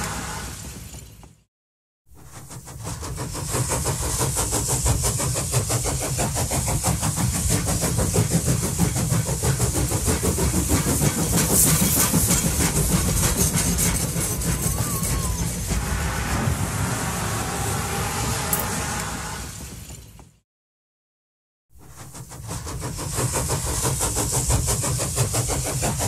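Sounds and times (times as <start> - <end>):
train running with hiss: 0.0 - 1.4, 2.1 - 20.4, 21.8 - 26.0.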